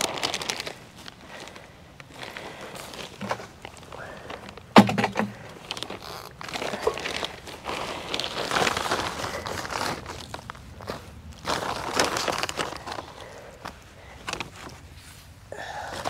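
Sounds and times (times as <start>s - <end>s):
crackly rustling and scraping: 0.0s - 16.0s.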